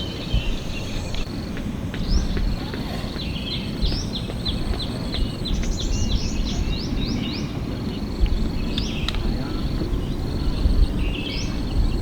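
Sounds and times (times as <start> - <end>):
constant low rumble: 0.0 - 12.0
small birds chirping: 0.0 - 12.0.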